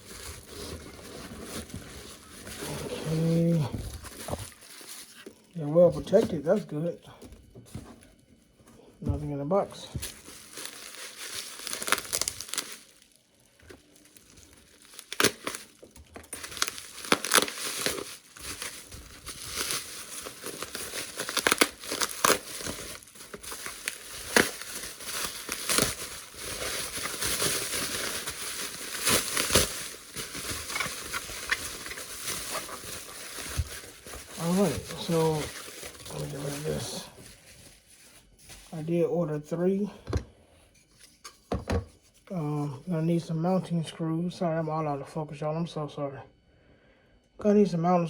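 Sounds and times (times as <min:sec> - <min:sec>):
packing peanuts rustling: 0:00.0 - 0:39.8.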